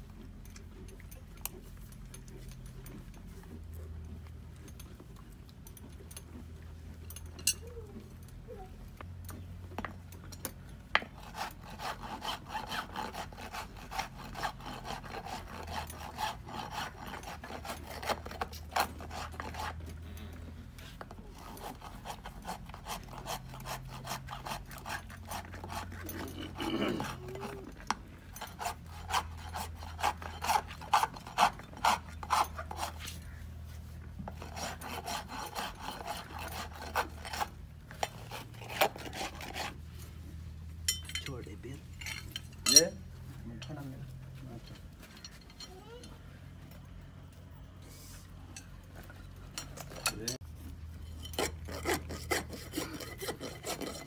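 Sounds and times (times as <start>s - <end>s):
hoof rasp scraping: 0.0s - 54.0s.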